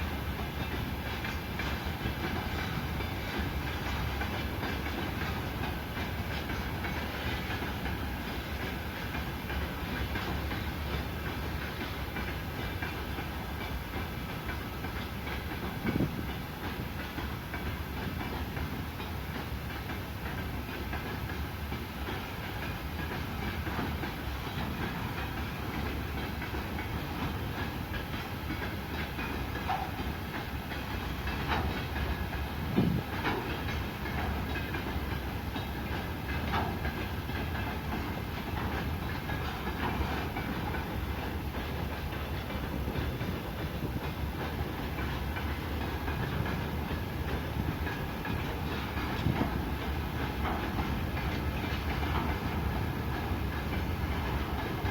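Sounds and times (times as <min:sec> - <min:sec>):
railway cars rumbling past: 0:00.0 - 0:54.9
wheel clatter on rails: 0:00.0 - 0:54.9.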